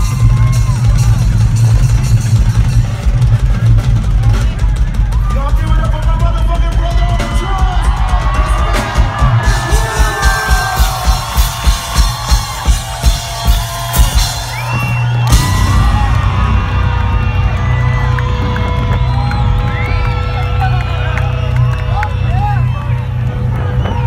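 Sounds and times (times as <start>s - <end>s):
crowd whooping and cheering: 0.0s - 24.0s
live band playing: 0.0s - 24.0s.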